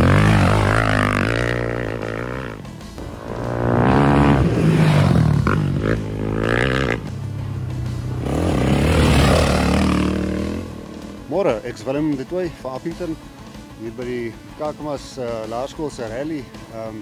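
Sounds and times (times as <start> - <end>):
dirt bike engines revving: 0.0 - 13.8
background music: 0.0 - 17.0.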